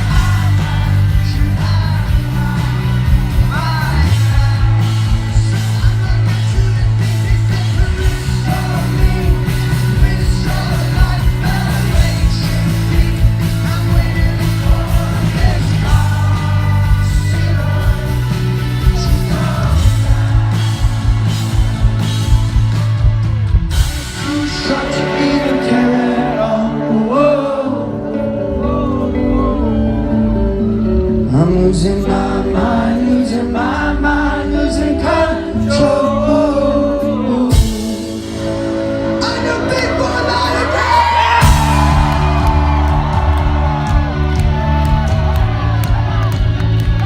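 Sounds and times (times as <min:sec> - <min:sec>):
man singing: 0:00.0 - 0:21.8, 0:24.0 - 0:30.4, 0:31.1 - 0:42.4
rock band playing: 0:00.0 - 0:47.0.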